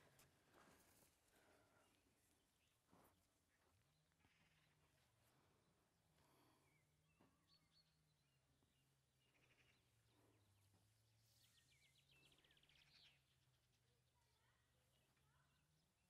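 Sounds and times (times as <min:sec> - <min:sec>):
faint bird chirps: 0:01.4 - 0:16.0.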